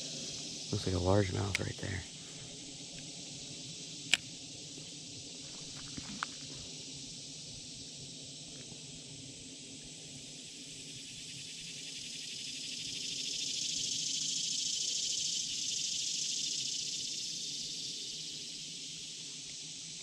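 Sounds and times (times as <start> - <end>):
cicada buzzing: 0.0 - 20.0.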